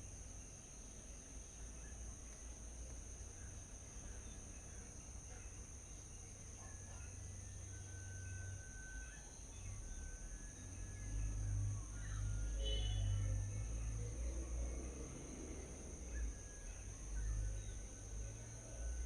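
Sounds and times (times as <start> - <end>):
faint bird chirps and calls: 1.1 - 19.0.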